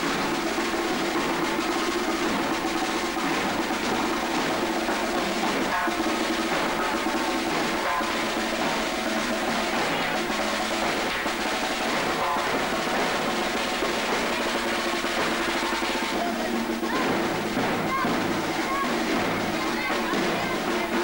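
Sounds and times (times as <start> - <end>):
processional band music: 0.0 - 21.0
snare drum rolls: 0.0 - 21.0.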